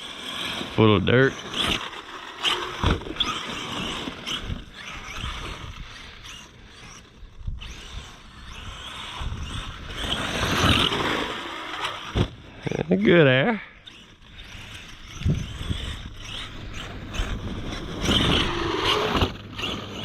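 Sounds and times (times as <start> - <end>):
toy truck motor whining: 0.0 - 20.0.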